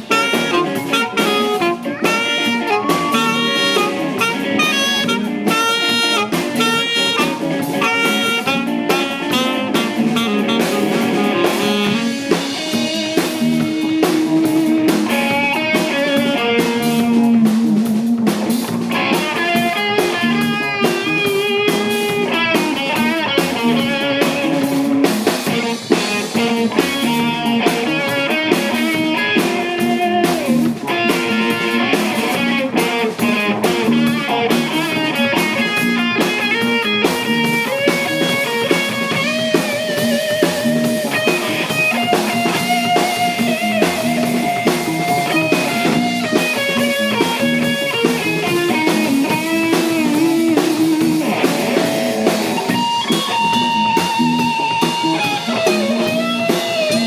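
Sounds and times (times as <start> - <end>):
drum kit: 0.0 - 57.0
guitar lines: 0.0 - 57.0
soul-jazz band playing: 0.0 - 57.0.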